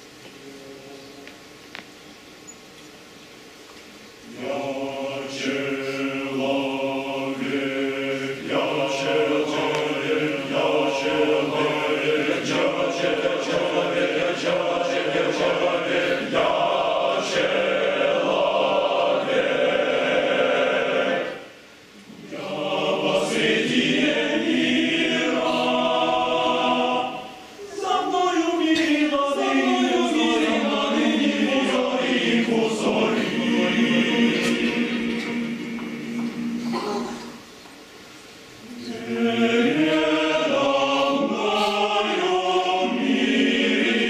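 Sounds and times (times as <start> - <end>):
male choir singing a cappella: 4.2 - 37.4, 38.7 - 44.0.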